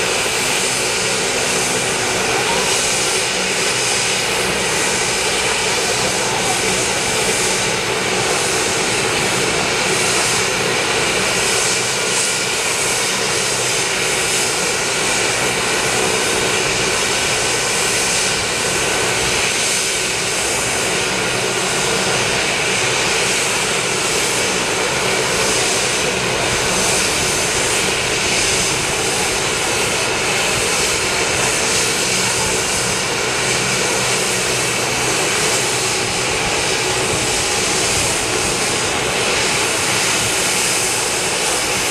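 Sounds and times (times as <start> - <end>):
helicopter rotor noise: 0.0 - 41.9
helicopter turbine whine: 0.0 - 41.9.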